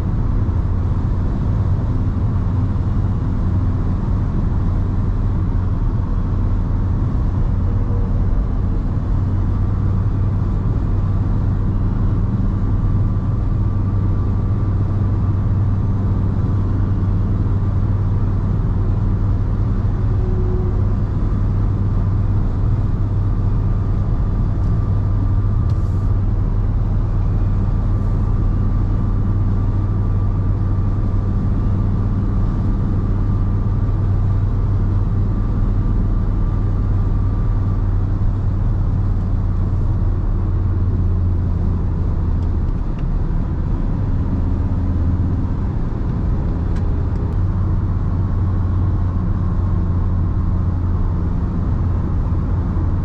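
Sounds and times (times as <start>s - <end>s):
diesel engine drone in car: 0.0s - 53.0s
road noise: 0.0s - 53.0s.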